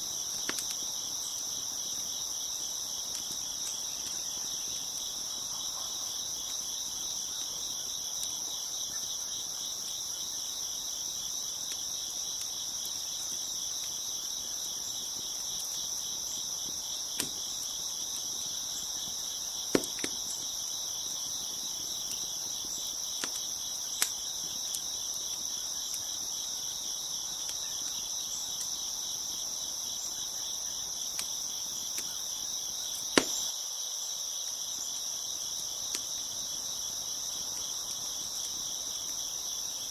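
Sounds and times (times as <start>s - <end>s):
wood fire popping: 0.0s - 33.5s, 35.4s - 39.9s
crickets chirping: 0.0s - 39.9s.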